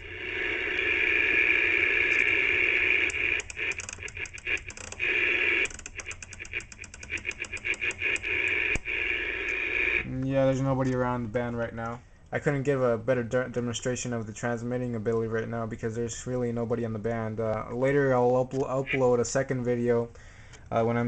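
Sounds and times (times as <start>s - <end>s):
radio static hiss: 0.0s - 16.5s, 17.5s - 20.1s.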